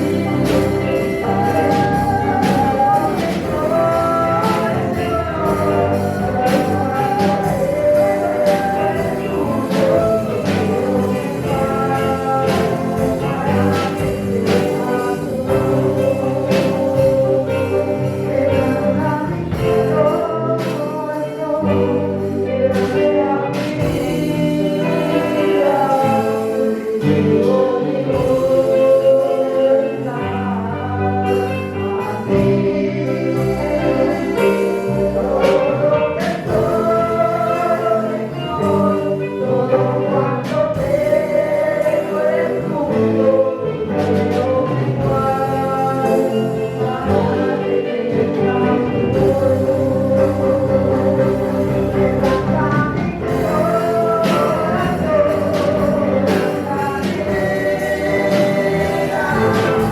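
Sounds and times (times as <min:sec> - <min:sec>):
choir singing gospel music: 0:00.0 - 0:59.9
instrumental accompaniment: 0:00.0 - 0:59.9.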